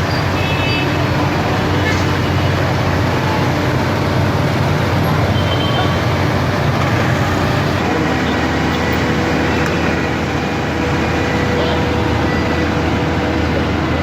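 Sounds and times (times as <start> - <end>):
large vehicle engine running: 0.0 - 14.0
road traffic noise: 0.0 - 14.0.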